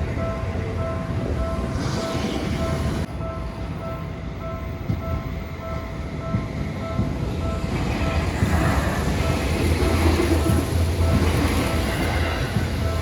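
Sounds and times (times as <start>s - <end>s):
level crossing warning bell: 0.0s - 13.0s
train rumbling past: 0.0s - 13.0s.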